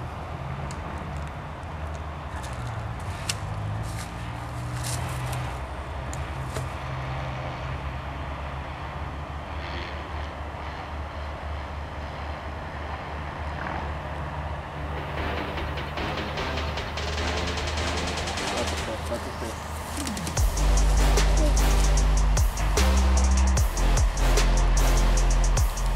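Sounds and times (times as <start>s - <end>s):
traffic rumble: 0.0s - 25.9s.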